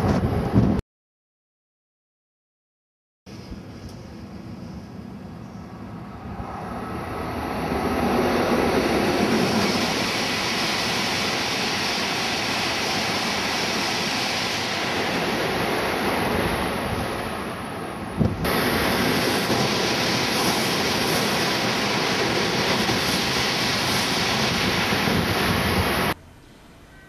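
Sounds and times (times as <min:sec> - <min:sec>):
bullet train passing: 0:03.3 - 0:26.2.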